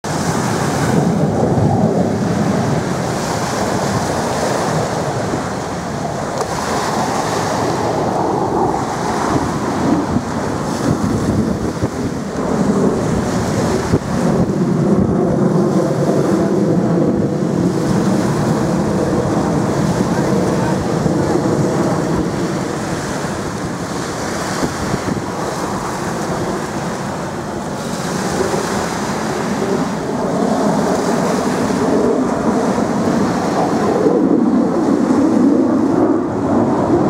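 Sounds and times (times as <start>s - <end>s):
jet aircraft roaring overhead: 0.0s - 37.0s
wind on microphone: 0.0s - 37.0s.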